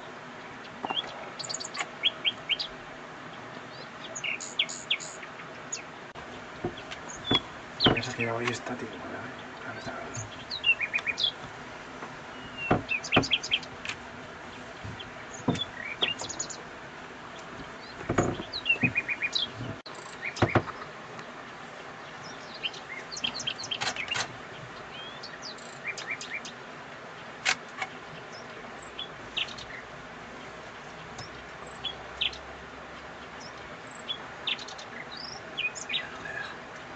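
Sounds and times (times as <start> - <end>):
nightingale singing: 0.0 - 11.5, 12.2 - 13.8, 14.4 - 16.7, 17.6 - 36.9.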